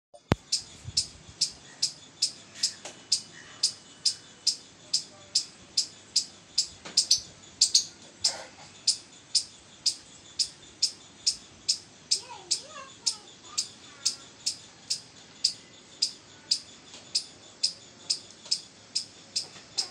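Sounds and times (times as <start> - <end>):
squirrel chip calls: 0.2 - 19.9.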